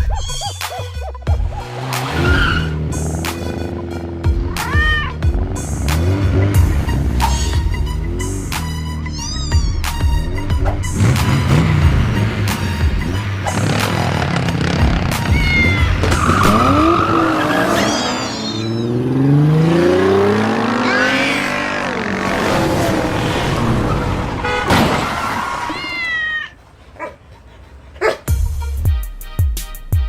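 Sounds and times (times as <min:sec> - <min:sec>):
car engine revving: 0:01.2 - 0:25.7.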